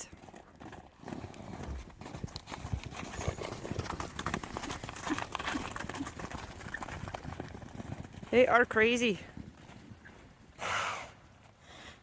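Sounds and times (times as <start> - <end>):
horse hoofbeats: 0.0 - 10.6.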